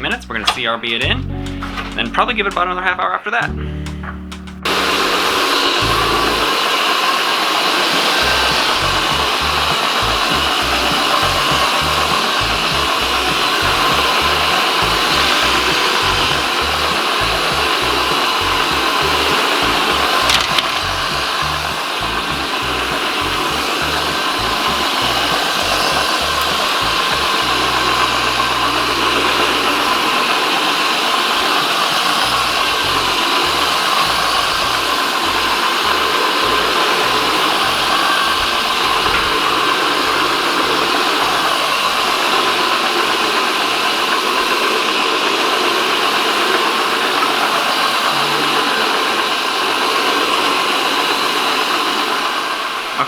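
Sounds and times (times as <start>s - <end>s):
carpet cleaning machine whine: 4.6s - 53.0s.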